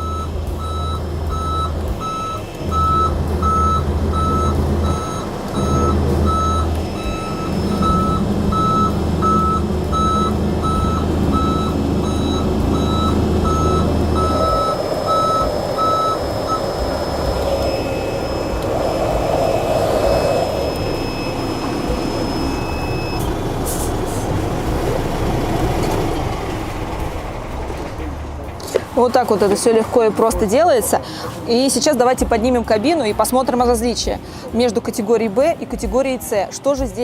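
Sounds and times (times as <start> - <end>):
truck warning beeper: 0.0 - 29.7
truck engine drone: 0.0 - 34.8.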